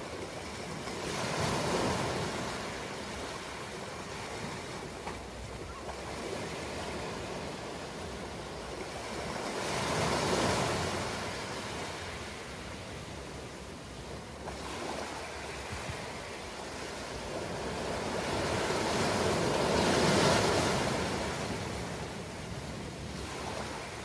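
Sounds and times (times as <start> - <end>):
ocean waves breaking on shore: 0.0 - 24.0.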